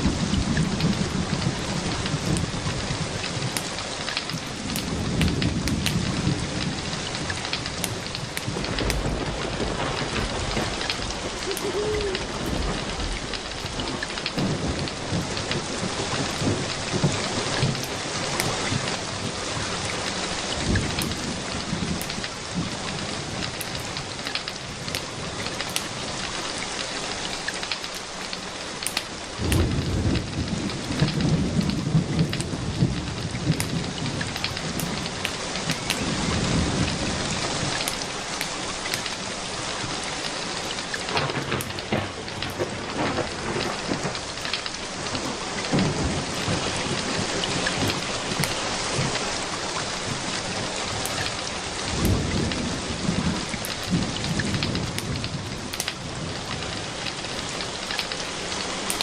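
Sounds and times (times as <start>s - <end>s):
rain hissing: 0.0s - 59.0s
thunder rumbling: 0.0s - 59.0s.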